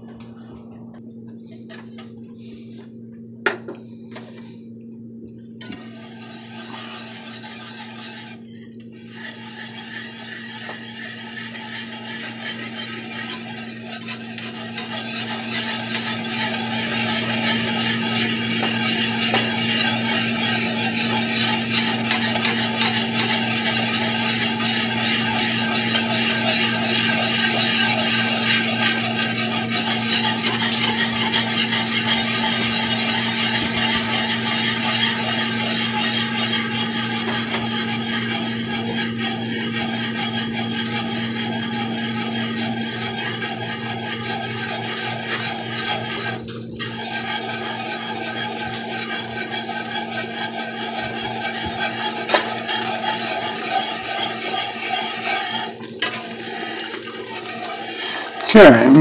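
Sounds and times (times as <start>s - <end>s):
whisk scraping an iron skillet: 5.6s - 59.0s.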